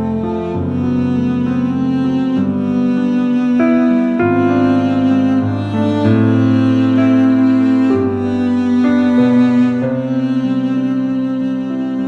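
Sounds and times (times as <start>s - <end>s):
low bowed string music: 0.0s - 12.0s.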